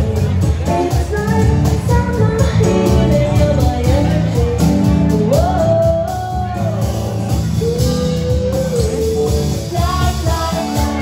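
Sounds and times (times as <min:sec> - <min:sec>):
women singing: 0:00.0 - 0:06.9, 0:07.5 - 0:11.0
acoustic guitar: 0:00.0 - 0:11.0
bass guitar: 0:00.0 - 0:11.0.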